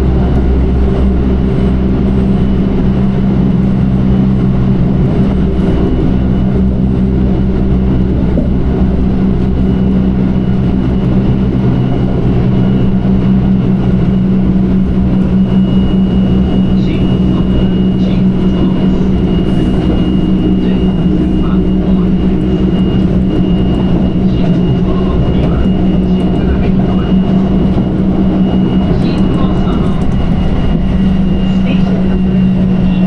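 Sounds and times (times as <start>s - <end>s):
electric train rumbling: 0.0s - 33.0s
faint high whine: 0.0s - 33.0s.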